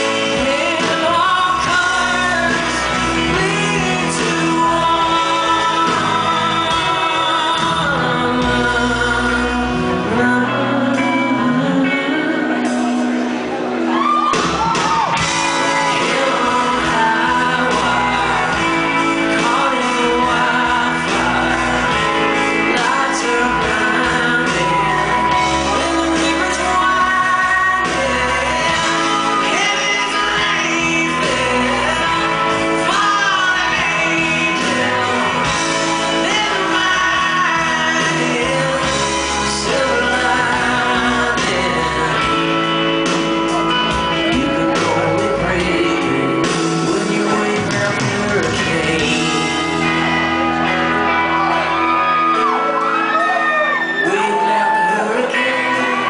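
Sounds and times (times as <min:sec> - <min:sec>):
man singing: 0:00.0 - 0:14.0, 0:15.0 - 0:56.0
live rock band: 0:00.0 - 0:56.0.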